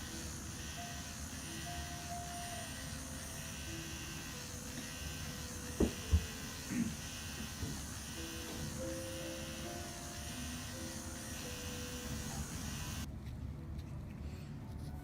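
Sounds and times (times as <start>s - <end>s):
motorized punch humming: 0.0s - 13.1s.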